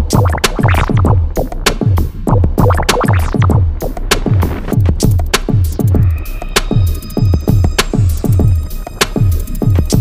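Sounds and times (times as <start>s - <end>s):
electronic music with driving beat: 0.0s - 10.0s.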